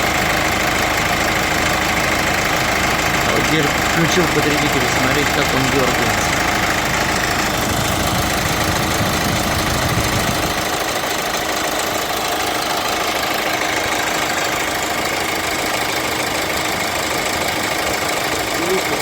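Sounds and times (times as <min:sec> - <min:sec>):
car engine idling with whine: 0:00.0 - 0:19.0
drive-belt roller jerking: 0:00.0 - 0:19.0.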